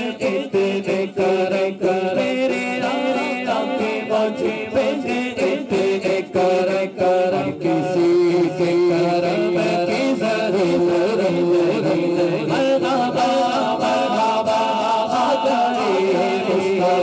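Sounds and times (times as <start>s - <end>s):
men singing devotional song over pa: 0.0s - 17.0s.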